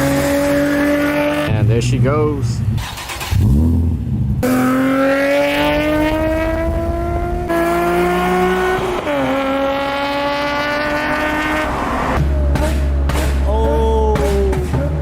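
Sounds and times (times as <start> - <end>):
car engine at high revs: 0.0 - 13.6.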